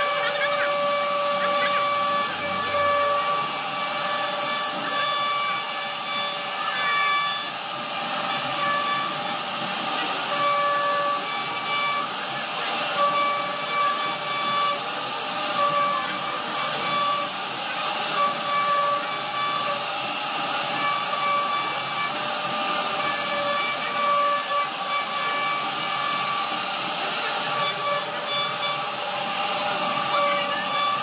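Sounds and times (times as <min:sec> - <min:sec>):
hiss of cutting wood: 0:00.0 - 0:31.0
router spindle whining: 0:00.0 - 0:31.0.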